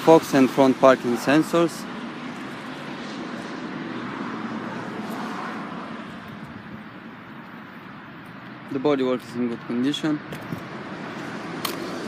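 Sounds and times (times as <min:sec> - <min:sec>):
passing traffic: 0:00.0 - 0:12.0.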